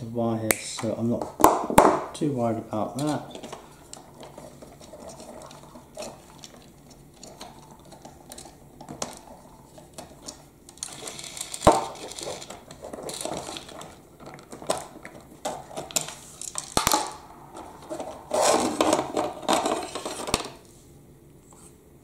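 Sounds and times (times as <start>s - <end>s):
plastic parts clicking and rattling: 2.9s - 20.6s.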